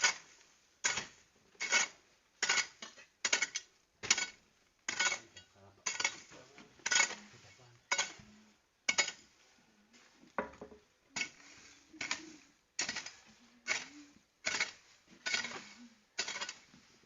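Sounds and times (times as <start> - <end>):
hoe striking and scraping ground: 0.0 - 7.3, 7.9 - 9.3, 11.2 - 17.0.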